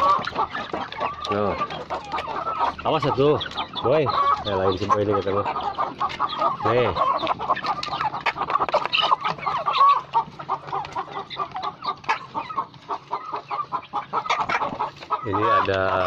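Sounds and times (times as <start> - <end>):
beaks pecking on wooden trough: 0.0 - 16.0
chickens clucking: 0.0 - 16.0.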